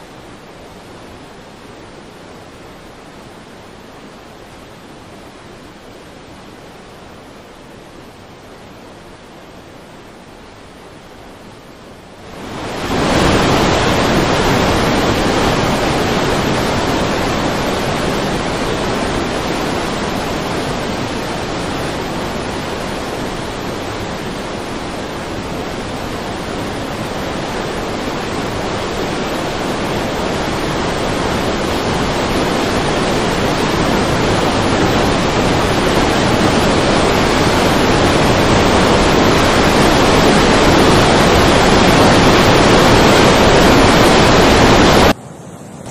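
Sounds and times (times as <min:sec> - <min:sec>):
floodwater rushing: 0:00.0 - 0:45.9.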